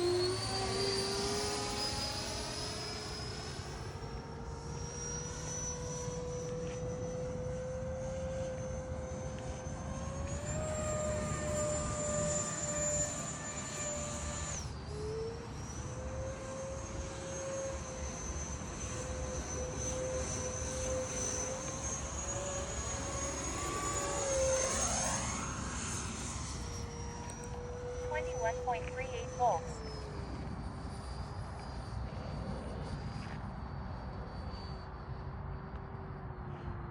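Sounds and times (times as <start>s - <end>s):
rc jet fan whine: 0.0s - 36.9s.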